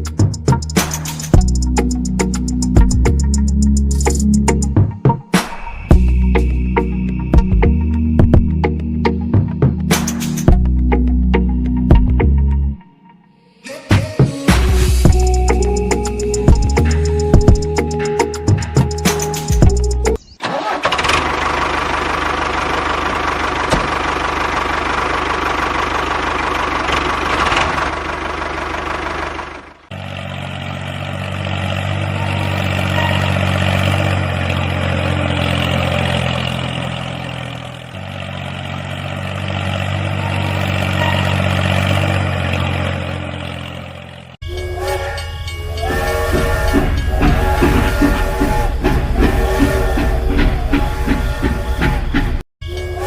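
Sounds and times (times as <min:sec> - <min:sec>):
engine running: 0:00.0 - 0:12.8, 0:14.5 - 0:53.0.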